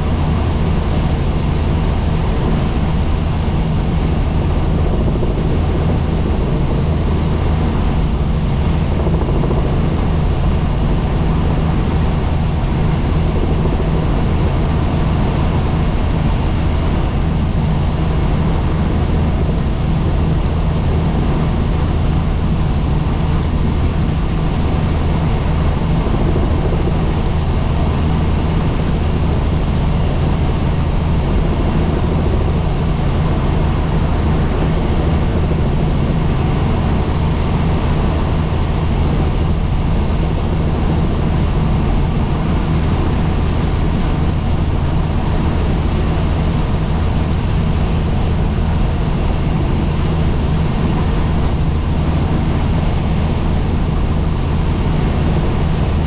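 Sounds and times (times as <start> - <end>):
helicopter flying: 0.0 - 56.0.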